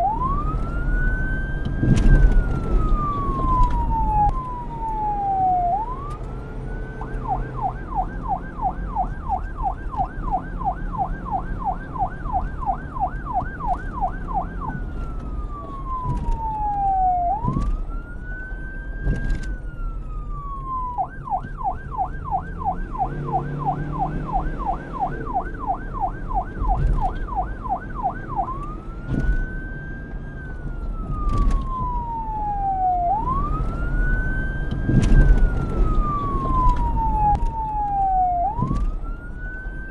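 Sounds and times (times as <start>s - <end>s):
police siren wailing and yelping: 0.0s - 39.9s.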